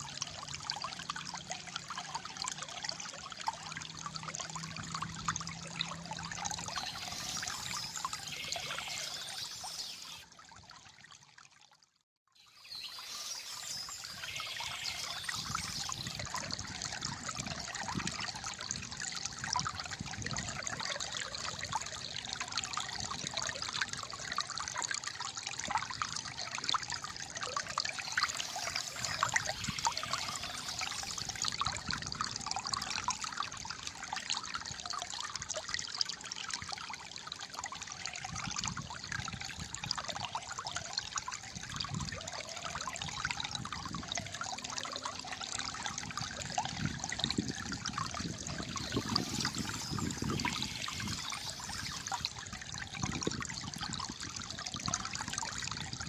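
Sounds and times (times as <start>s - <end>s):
stream trickling and gurgling: 0.0s - 56.0s.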